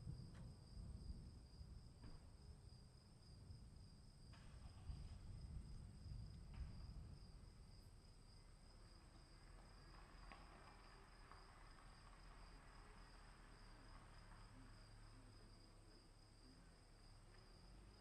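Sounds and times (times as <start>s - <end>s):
faint low rumble: 0.0s - 18.0s.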